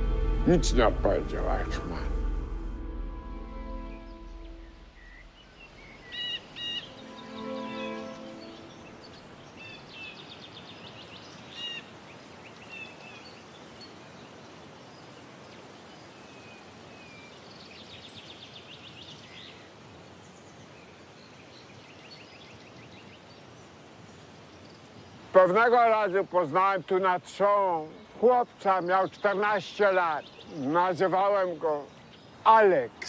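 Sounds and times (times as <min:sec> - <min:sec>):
faint outdoor hiss: 0:00.0 - 0:33.0
small birds chirping: 0:03.8 - 0:33.0.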